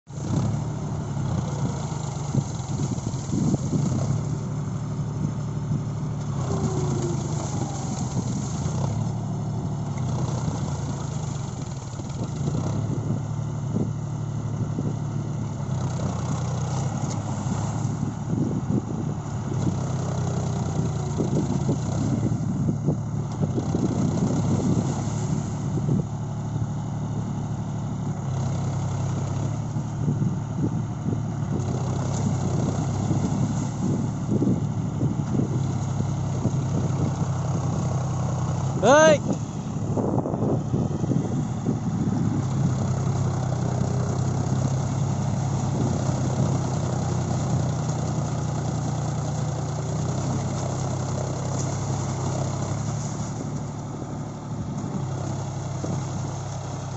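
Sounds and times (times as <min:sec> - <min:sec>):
tractor diesel engine running: 0:00.0 - 0:56.9
wheels splashing in mud: 0:00.1 - 0:13.5, 0:19.4 - 0:27.0, 0:31.4 - 0:56.9.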